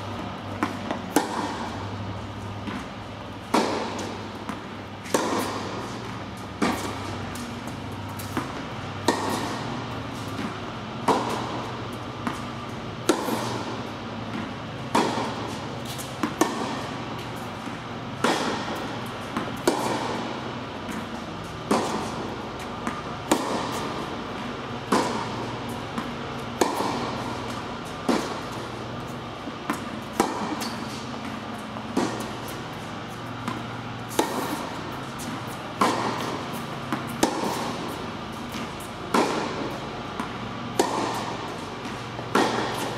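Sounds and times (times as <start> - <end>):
racket striking tennis ball: 0.0 - 42.9
tennis ball bouncing: 0.0 - 42.9.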